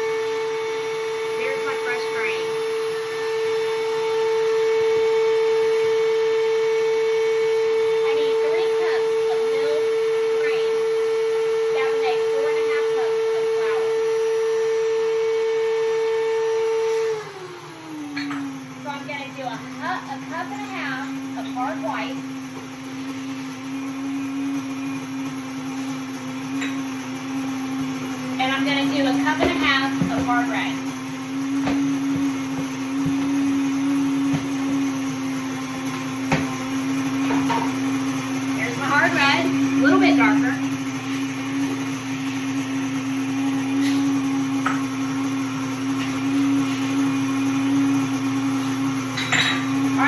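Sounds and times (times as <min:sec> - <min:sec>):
electric grain mill humming: 0:00.0 - 0:50.0.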